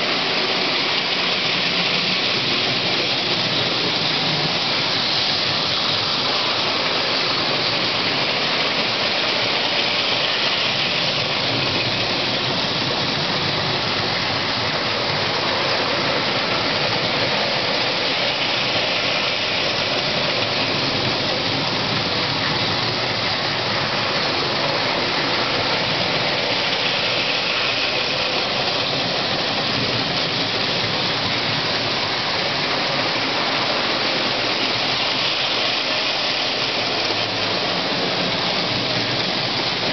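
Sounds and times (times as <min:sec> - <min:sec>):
metal wheels rolling on tin rails: 0:00.0 - 0:39.9
toy train electric motors: 0:00.0 - 0:39.9.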